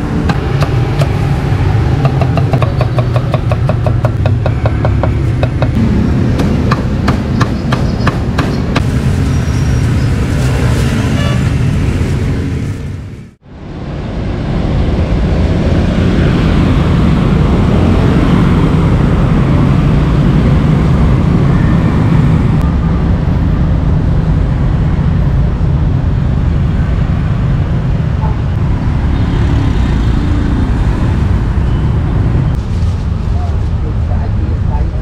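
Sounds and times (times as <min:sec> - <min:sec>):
dense road traffic roar: 0:00.0 - 0:35.0.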